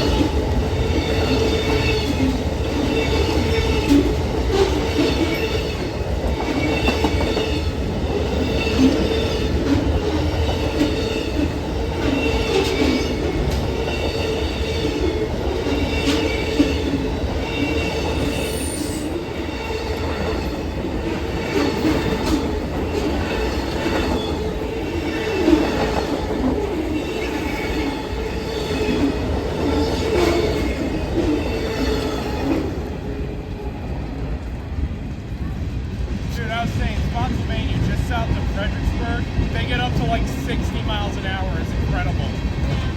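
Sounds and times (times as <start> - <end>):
train rumbling past: 0.0 - 42.9.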